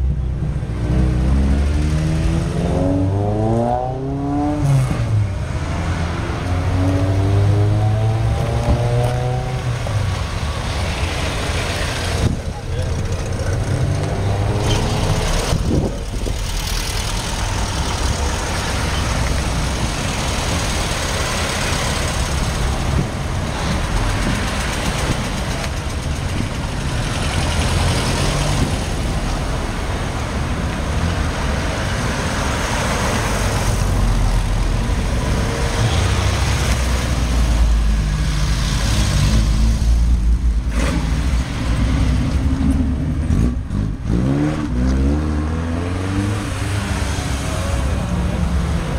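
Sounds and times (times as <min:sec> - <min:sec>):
car engines rumbling: 0:00.0 - 0:48.9.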